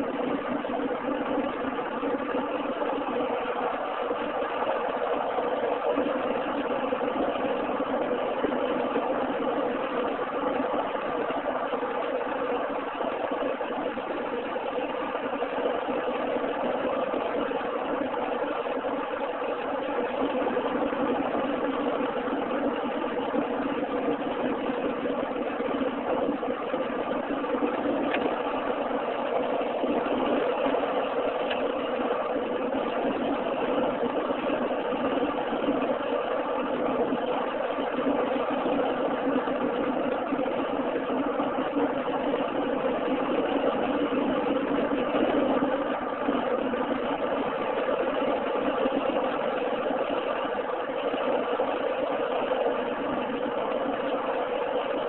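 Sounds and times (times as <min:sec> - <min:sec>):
car engine drone: 0:00.0 - 0:55.0.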